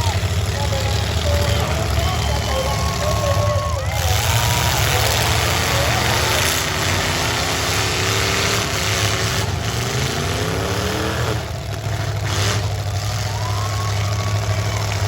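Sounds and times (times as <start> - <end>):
car engines running loud: 0.0 - 15.0
engine revving: 0.0 - 15.0.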